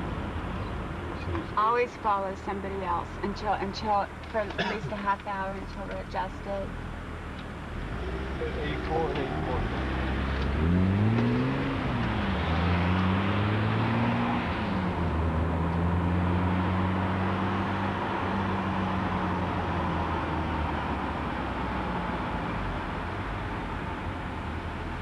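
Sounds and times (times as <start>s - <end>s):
car engine accelerating: 0.0s - 25.0s
tyre and road noise: 0.0s - 25.0s.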